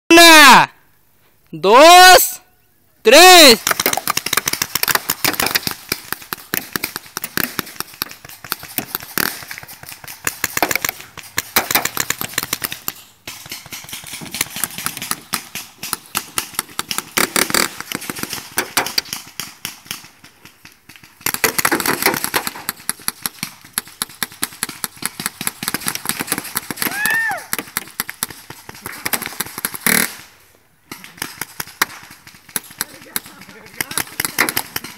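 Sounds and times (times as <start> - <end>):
paintball markers firing: 3.5 - 30.3, 30.9 - 34.9.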